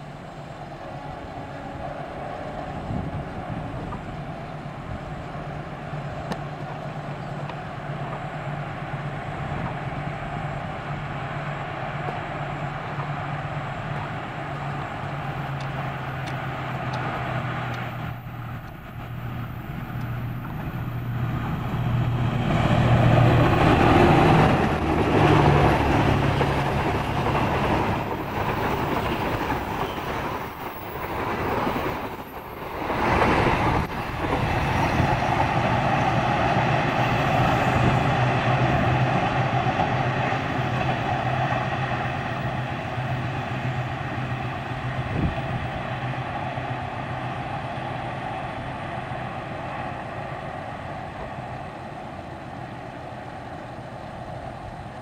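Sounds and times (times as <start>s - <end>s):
train engine drone: 0.0s - 55.0s
wheels rumbling on rails: 0.0s - 55.0s.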